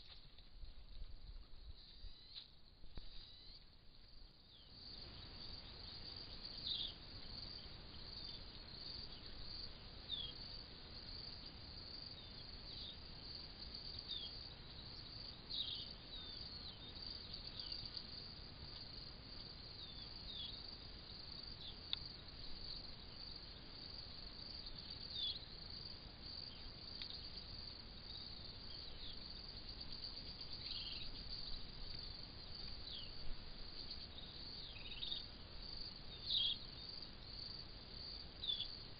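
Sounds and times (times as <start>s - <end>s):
crickets trilling: 0.0s - 38.9s
faint low background noise: 0.0s - 38.9s.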